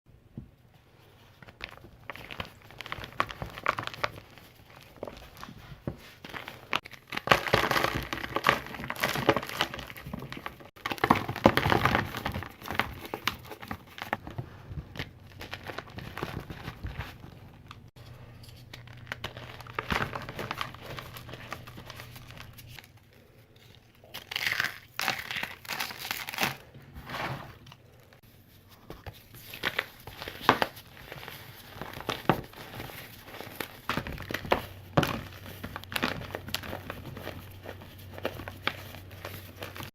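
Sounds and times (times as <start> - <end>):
crunchy powder crushed by hand: 1.4 - 17.9, 18.7 - 23.0, 23.9 - 27.3, 29.3 - 39.9.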